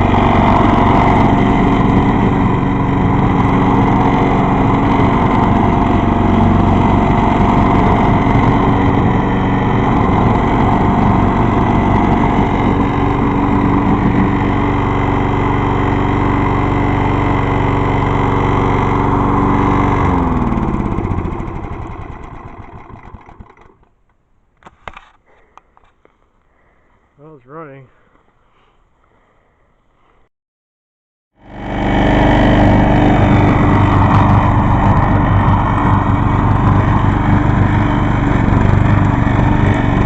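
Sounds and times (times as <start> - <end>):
lawn mower engine running: 0.0 - 24.2, 31.4 - 40.0.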